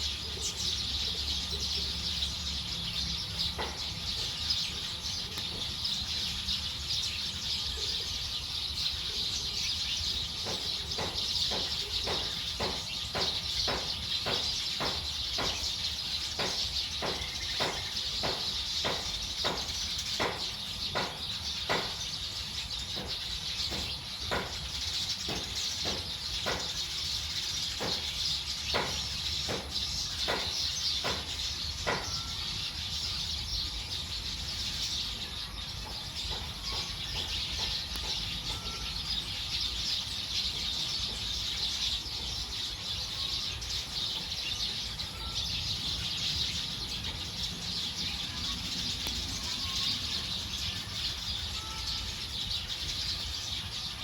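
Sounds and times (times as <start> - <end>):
flock of birds chirping: 0.0 - 54.0.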